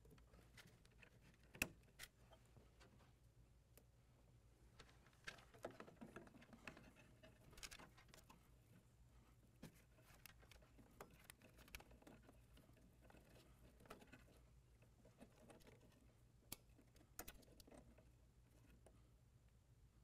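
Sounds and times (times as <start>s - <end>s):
cables and plastic rustling: 0.0s - 3.2s, 4.7s - 19.0s
low steady hum: 0.0s - 20.0s.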